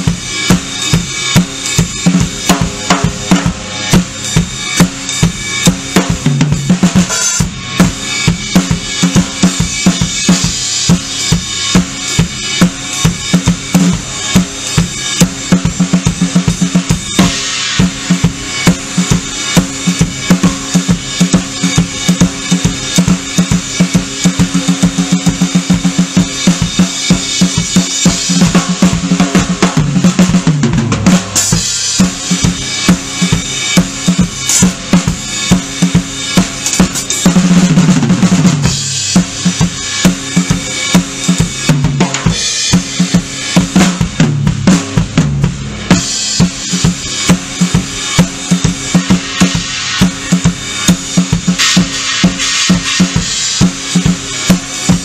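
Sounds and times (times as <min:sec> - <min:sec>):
ringing cymbals: 0:00.0 - 0:29.6, 0:31.3 - 0:37.8, 0:38.5 - 0:44.2, 0:45.8 - 0:55.0
drum kit solo: 0:00.0 - 0:55.0.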